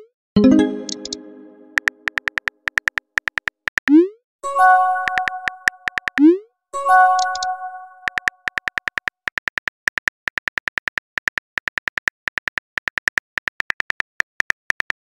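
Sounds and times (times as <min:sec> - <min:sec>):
phone keyboard typing clicks: 0:00.6 - 0:03.9, 0:05.0 - 0:06.3, 0:07.1 - 0:15.0.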